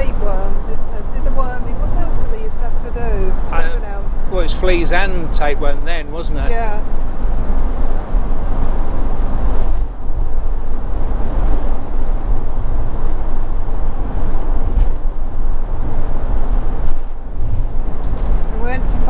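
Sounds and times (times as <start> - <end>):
vehicle engine tyres and wind drone: 0.0 - 19.0.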